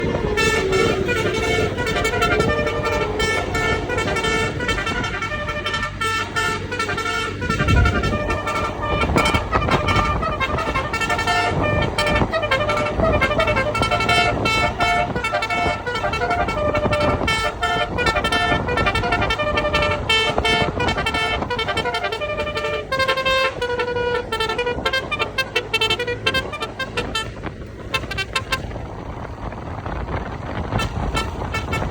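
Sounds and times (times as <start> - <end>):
bus musical horn playing tune: 0.0 - 31.9.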